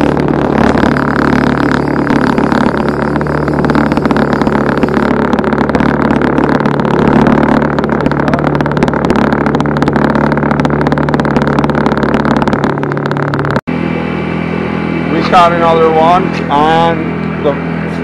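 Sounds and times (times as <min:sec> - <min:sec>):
outboard motor droning: 0:00.0 - 0:18.0.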